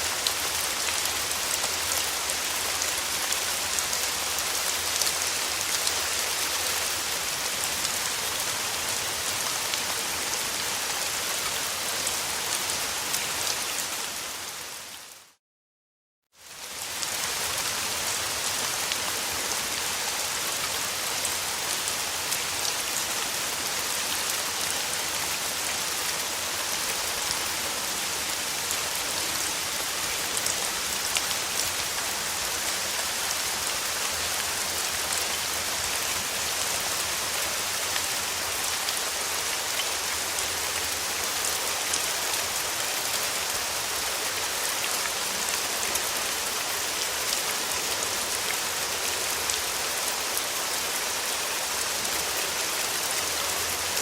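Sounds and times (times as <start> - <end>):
steady rain falling: 0.0 - 15.4, 16.3 - 54.0.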